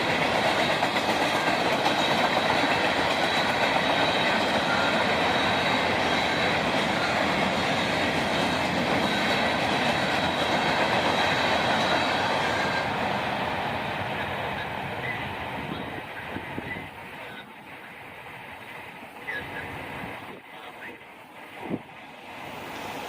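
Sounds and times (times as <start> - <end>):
train passing on rails: 0.0 - 23.0.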